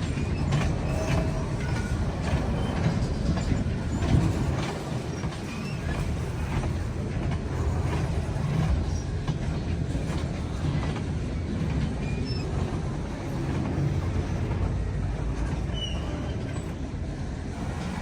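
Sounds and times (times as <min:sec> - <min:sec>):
freight train cars rolling: 0:00.0 - 0:18.0
wheels clicking on rails: 0:00.0 - 0:18.0.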